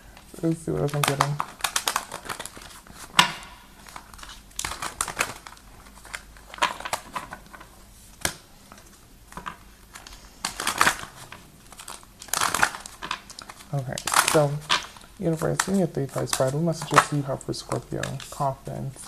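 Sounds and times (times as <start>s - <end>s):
cards being shuffled: 0.1s - 19.0s.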